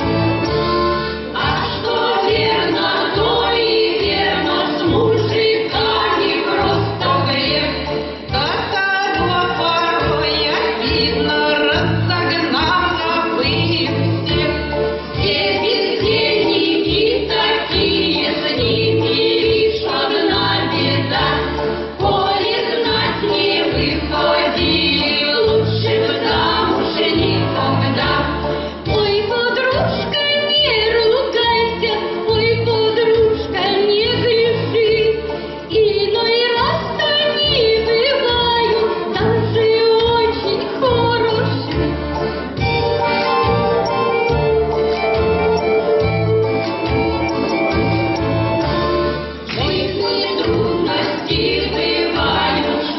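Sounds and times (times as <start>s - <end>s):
choir singing with accompaniment: 0.0s - 52.9s.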